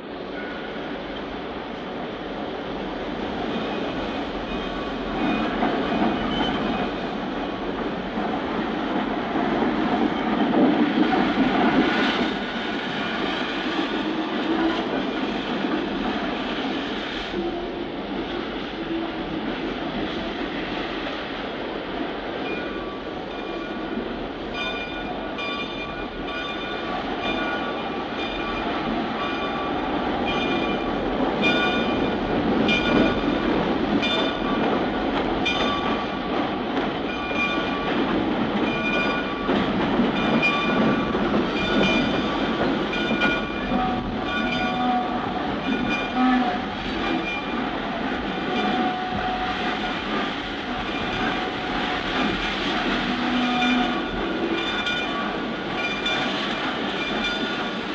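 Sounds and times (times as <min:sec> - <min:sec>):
train rumble: 0:00.0 - 0:57.9
train wheels clicking over rail joints: 0:02.7 - 0:57.9.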